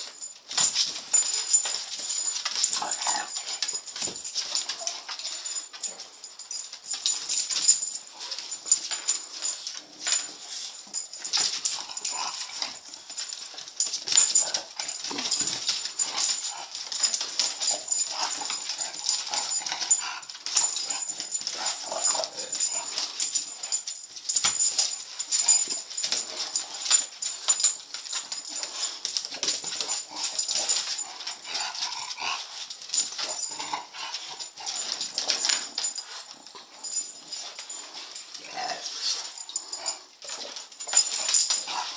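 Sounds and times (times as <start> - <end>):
dog claws clicking on wooden floor: 0.0 - 41.9.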